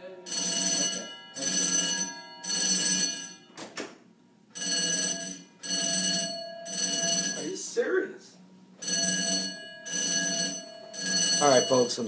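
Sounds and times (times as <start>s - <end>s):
fire alarm ringing: 0.2s - 3.6s, 4.5s - 7.7s, 8.8s - 12.0s.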